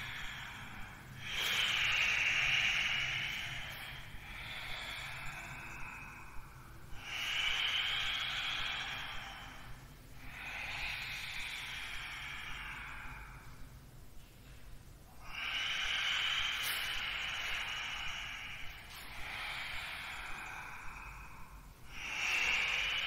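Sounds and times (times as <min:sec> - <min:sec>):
deep hissing breaths: 0:00.0 - 0:23.0.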